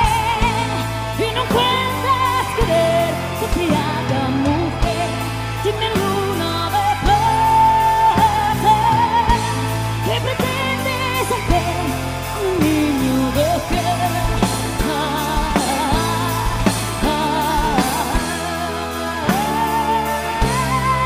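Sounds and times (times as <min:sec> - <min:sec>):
band accompaniment: 0:00.0 - 0:21.0
woman singing with vibrato: 0:00.0 - 0:21.0.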